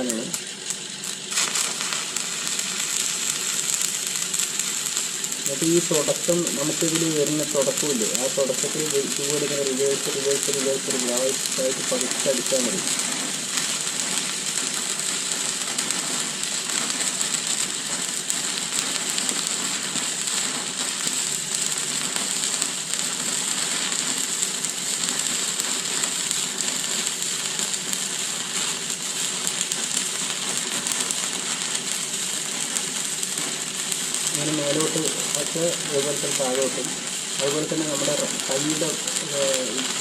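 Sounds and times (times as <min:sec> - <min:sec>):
welding arc crackling sizzle: 0:00.0 - 0:40.0.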